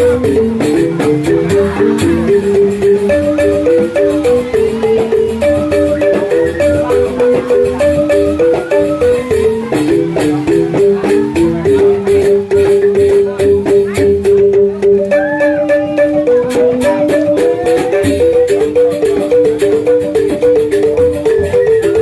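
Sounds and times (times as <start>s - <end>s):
bamboo xylophones playing: 0.0s - 22.0s.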